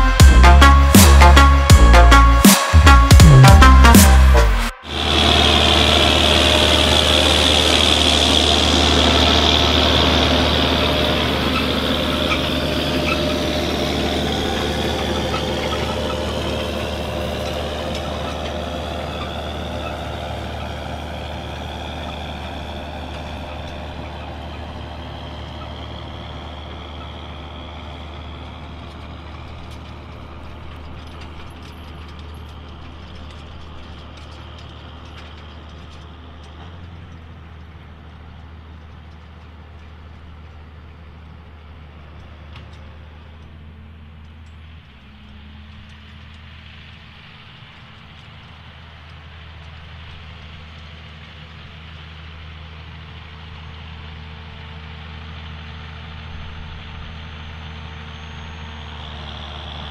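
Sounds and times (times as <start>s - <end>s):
tractor engine moving away: 0.0s - 59.9s.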